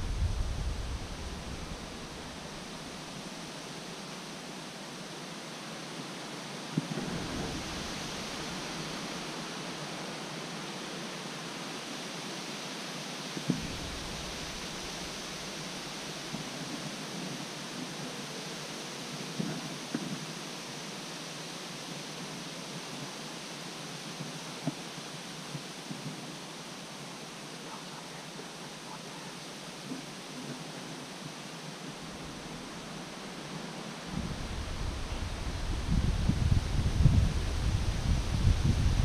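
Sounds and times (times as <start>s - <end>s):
rustling leaves: 0.0s - 39.0s
wind: 0.0s - 39.0s.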